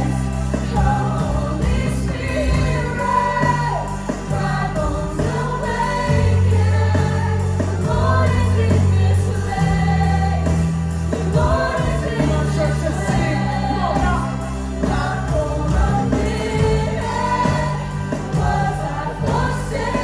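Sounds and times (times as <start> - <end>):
held bass notes: 0.0 - 20.0
voices singing sustained lines: 0.0 - 20.0
worship band playing: 0.0 - 20.0.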